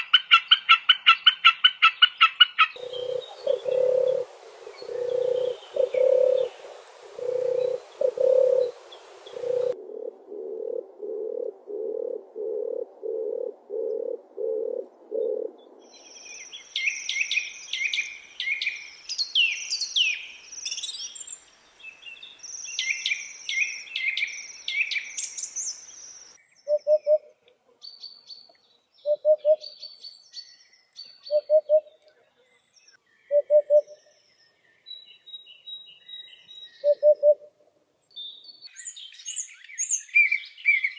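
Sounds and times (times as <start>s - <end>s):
songbird high-pitched song: 2.0s - 9.8s, 15.6s - 40.9s.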